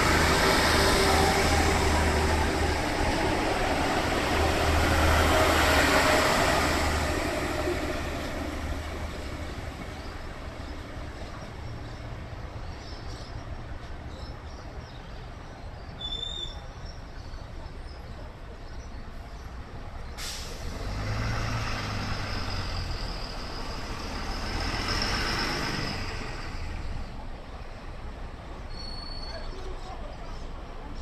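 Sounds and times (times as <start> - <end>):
diesel railcar engine drone: 0.0 - 31.0.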